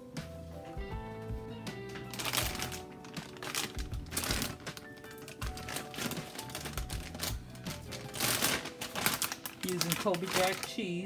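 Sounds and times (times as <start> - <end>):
background music: 0.0 - 11.0
plastic bag crinkling: 1.8 - 11.0.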